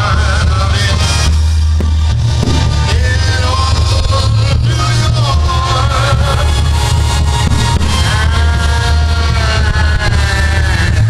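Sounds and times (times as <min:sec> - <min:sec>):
rock music with singing: 0:00.0 - 0:11.0.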